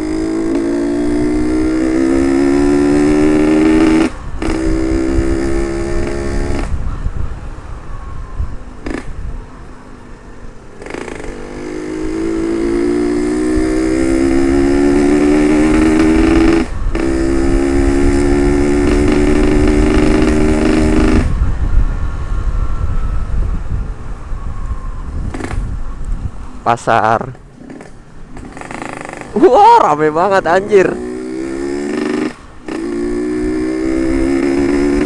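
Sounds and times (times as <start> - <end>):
two-stroke motorcycle accelerating: 0.0 - 7.0, 8.8 - 9.6, 10.7 - 23.9, 24.6 - 26.2, 27.0 - 35.0
wind rumble on microphone: 0.0 - 35.0.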